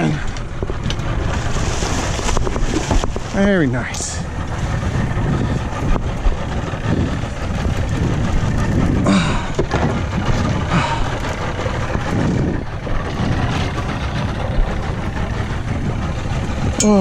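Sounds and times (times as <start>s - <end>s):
boat engine idling: 0.0s - 17.0s
water noise: 0.0s - 17.0s
wind: 0.0s - 17.0s.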